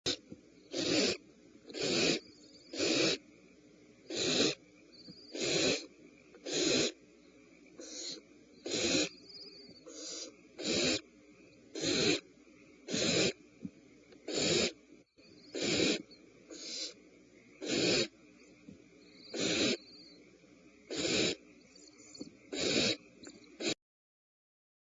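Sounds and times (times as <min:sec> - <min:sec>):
owl nestlings hissing calls: 0:00.1 - 0:03.4, 0:04.0 - 0:13.5, 0:14.1 - 0:23.8.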